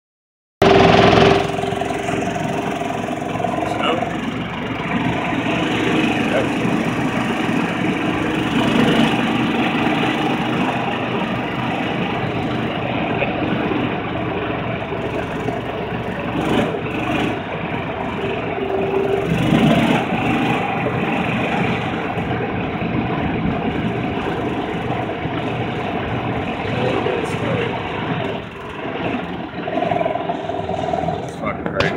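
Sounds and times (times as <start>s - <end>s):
utility vehicle engine running: 0.6s - 31.9s.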